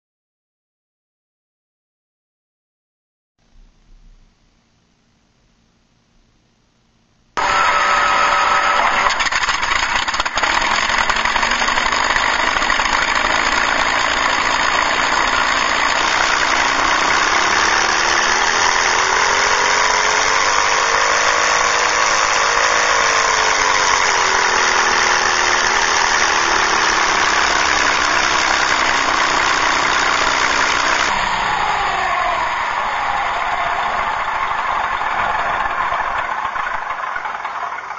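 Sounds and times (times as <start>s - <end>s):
piston engine sound: 7.4s - 37.9s.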